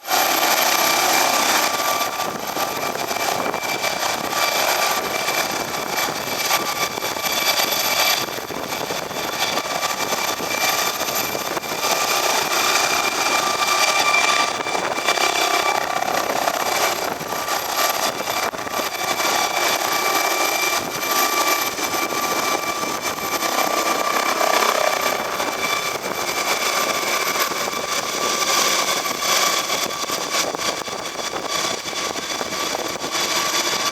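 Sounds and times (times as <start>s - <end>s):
helicopter engine whine: 0.0s - 33.9s
helicopter rotors rushing: 0.0s - 33.9s.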